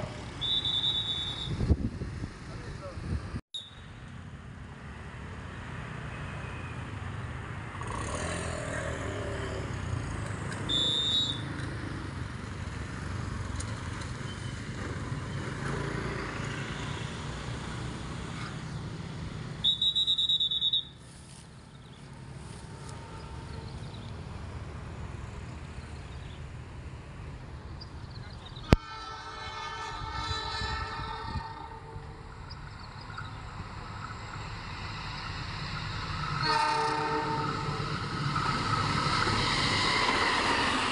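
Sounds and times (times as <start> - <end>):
motorcycles passing: 4.2 - 28.4, 29.7 - 40.9.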